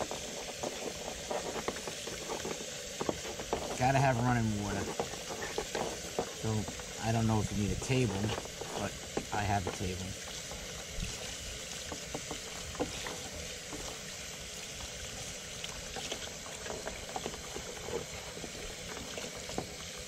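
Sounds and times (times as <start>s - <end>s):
running water splashing into sink: 0.0s - 20.0s.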